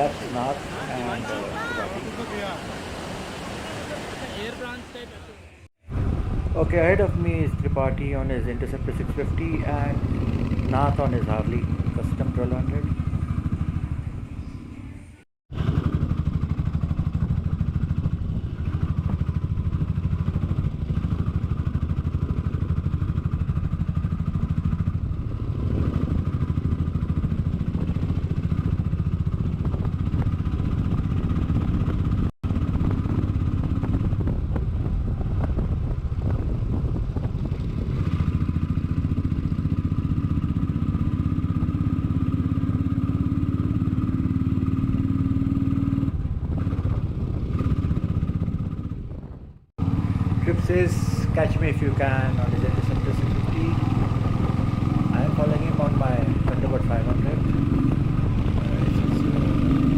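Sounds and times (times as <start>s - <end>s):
wind and road noise: 0.0s - 59.9s
motorcycle engine running: 5.9s - 14.9s, 15.5s - 59.9s.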